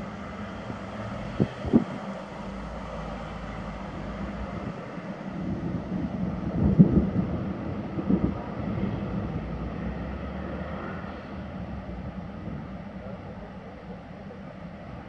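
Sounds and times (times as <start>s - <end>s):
wind gusting against microphone: 0.0s - 15.0s.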